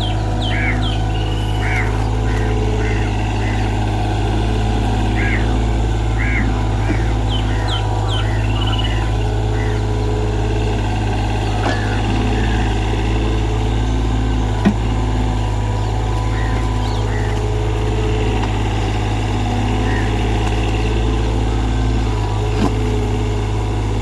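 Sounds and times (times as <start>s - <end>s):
excavator diesel engine humming: 0.0s - 24.0s.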